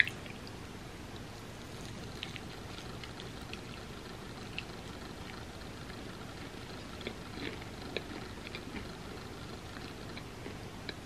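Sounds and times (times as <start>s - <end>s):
steady low hiss: 0.0s - 11.0s
crunchy chewing: 1.6s - 11.0s.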